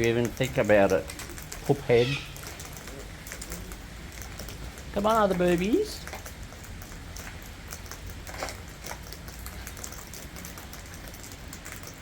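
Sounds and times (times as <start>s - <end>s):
faint drips and taps: 0.0s - 12.0s
light rain falling: 0.0s - 12.0s.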